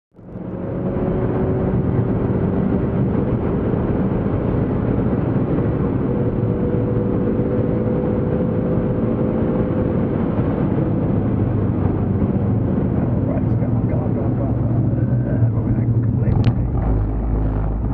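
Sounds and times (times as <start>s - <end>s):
road and wind noise: 0.1s - 17.9s
car engine inside cabin: 0.2s - 17.9s.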